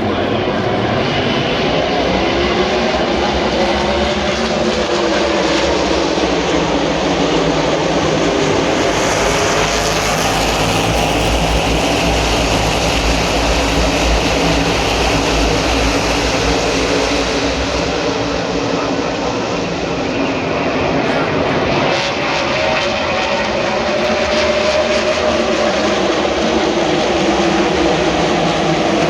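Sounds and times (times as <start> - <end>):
race car engines roaring: 0.0 - 29.0.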